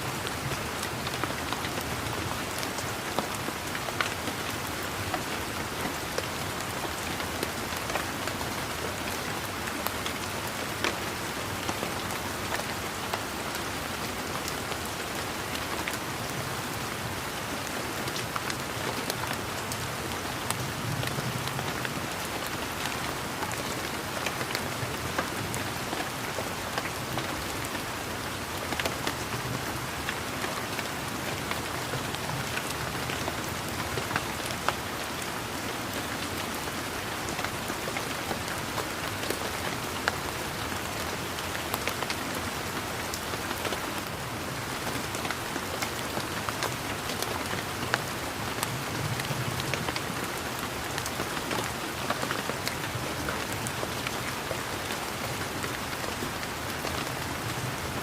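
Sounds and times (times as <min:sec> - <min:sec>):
steady rain falling: 0:00.0 - 0:58.0
raindrops ticking on surfaces: 0:00.1 - 0:58.0.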